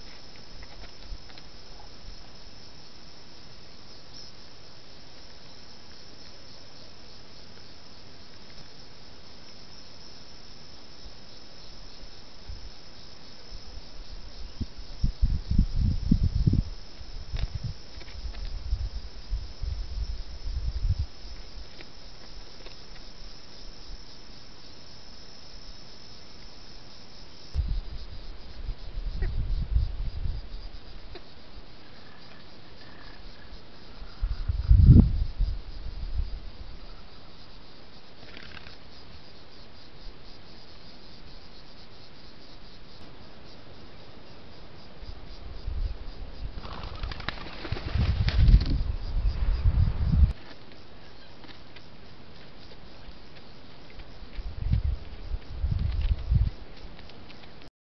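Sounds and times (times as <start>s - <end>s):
high-pitched insect chorus: 0.0s - 57.7s.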